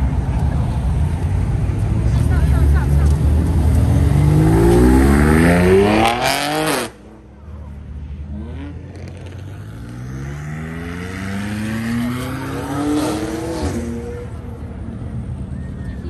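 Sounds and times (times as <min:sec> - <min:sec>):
second car engine accelerating: 0:00.0 - 0:16.0
car engine revving: 0:01.0 - 0:14.7.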